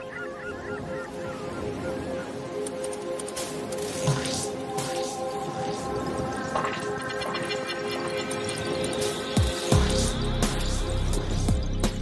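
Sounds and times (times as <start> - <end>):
seabirds chirping: 0.0 - 11.9.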